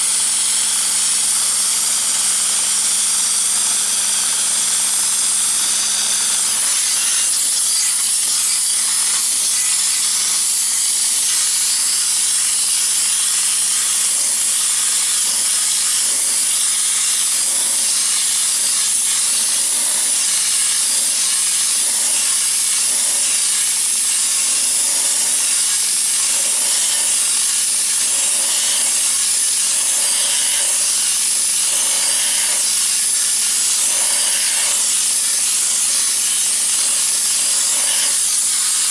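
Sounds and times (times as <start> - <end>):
pressure washer motor hum: 0.0 - 7.6, 12.2 - 38.9
high-pressure water and sand jet hissing: 0.0 - 38.9.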